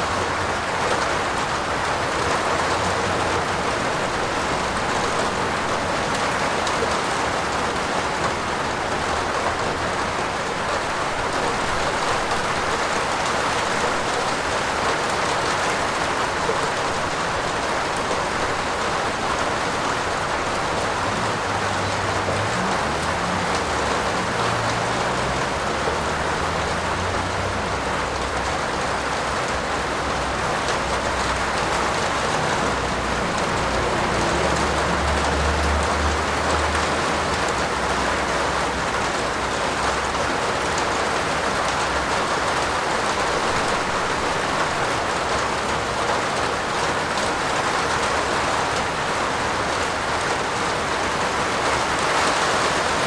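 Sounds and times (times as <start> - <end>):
heavy rain on a roof: 0.0 - 53.0.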